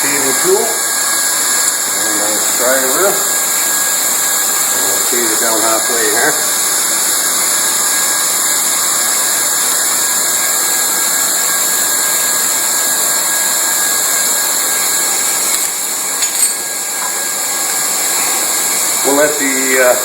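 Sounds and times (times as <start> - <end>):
hot-air welding gun blower hissing: 0.0 - 20.0.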